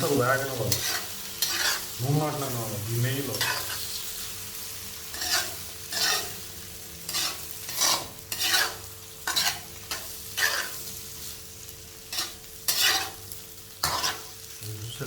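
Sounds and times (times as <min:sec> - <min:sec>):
vegetables sizzling in a pan: 0:00.0 - 0:15.0
spatula scraping a pan: 0:00.1 - 0:02.0, 0:03.2 - 0:04.3, 0:05.0 - 0:14.4.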